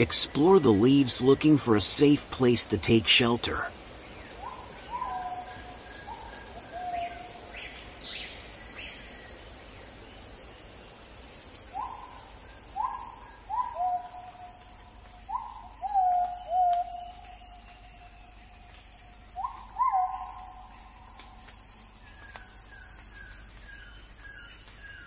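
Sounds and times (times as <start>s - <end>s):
bird calling: 0.0s - 9.0s, 11.7s - 25.0s
high insect drone: 0.0s - 25.0s.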